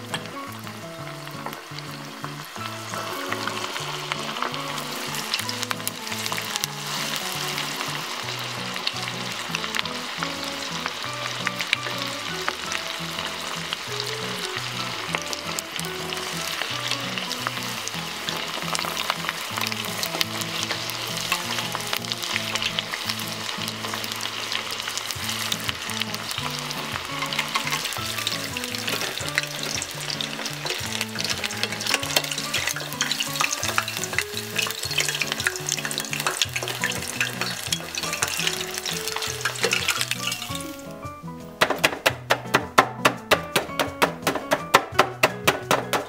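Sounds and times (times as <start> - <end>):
chicken deep-frying in oil: 0.0 - 46.0
quiet bossa nova music: 0.0 - 46.0.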